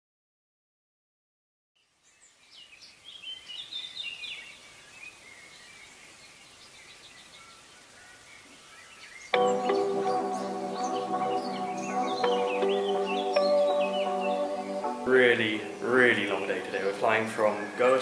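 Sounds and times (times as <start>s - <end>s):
background hiss: 1.8s - 18.0s
birds chirping: 1.9s - 18.0s.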